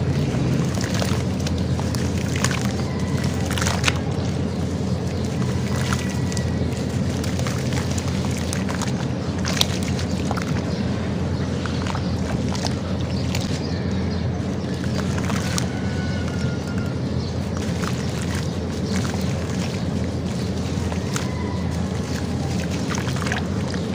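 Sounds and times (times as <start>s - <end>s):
gritty clicks and crackles: 0.0s - 13.7s, 14.6s - 23.9s
hands squishing wet sand in water: 0.0s - 23.9s
steady low rumble: 0.0s - 23.9s
water sloshing: 0.0s - 23.9s.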